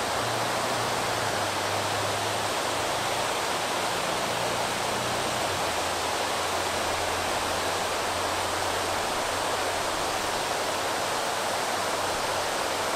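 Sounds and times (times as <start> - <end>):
river water pouring over dam: 0.0 - 12.9.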